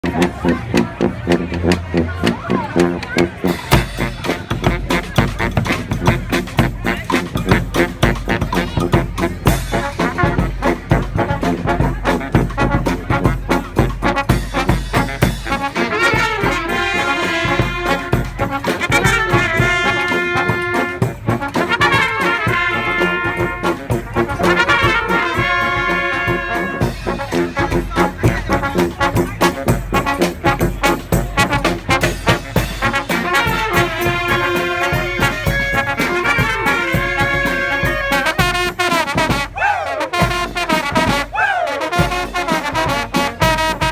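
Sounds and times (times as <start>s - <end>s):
steady percussion: 0.0s - 43.9s
trombones and trumpets melody: 0.0s - 43.9s.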